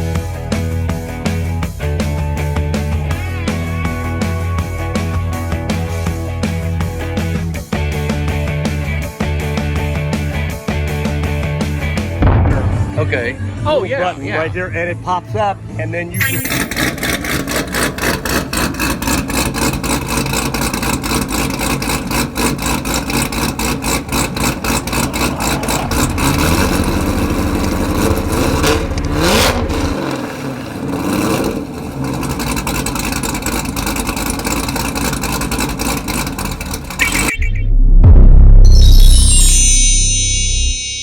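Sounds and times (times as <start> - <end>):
engine idling and revving: 0.0 - 12.7, 16.2 - 39.2.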